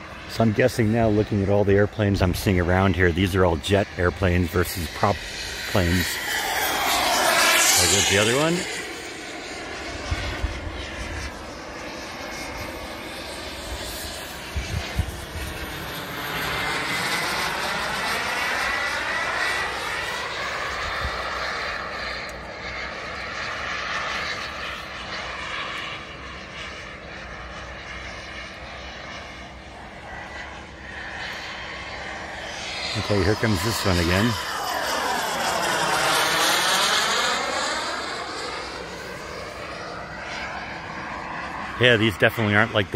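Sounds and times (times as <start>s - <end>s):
model jet turbine flying past: 0.0s - 42.9s.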